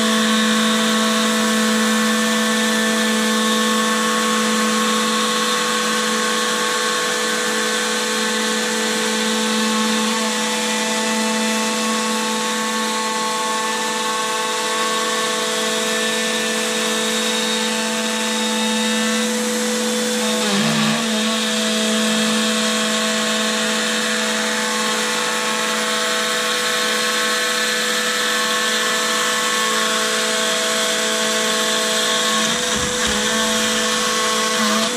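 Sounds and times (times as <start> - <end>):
cnc router spindle whine: 0.0 - 34.9.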